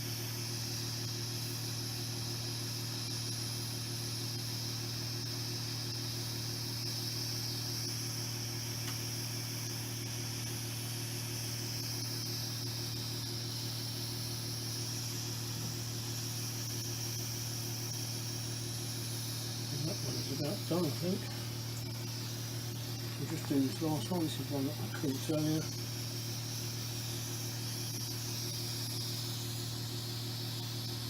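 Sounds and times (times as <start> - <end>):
hot knife buzzing with hiss: 0.0 - 31.0.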